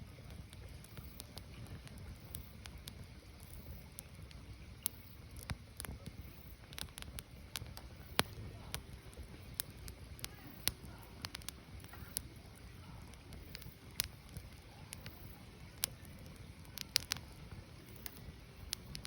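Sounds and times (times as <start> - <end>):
firewood crackling: 0.0 - 19.0.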